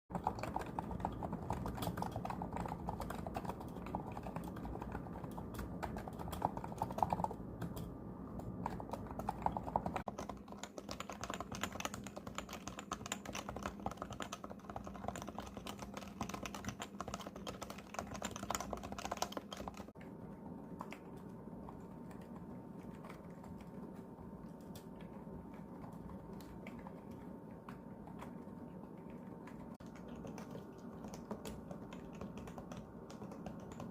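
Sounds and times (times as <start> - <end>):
fast keyboard typing: 0.1 - 33.9.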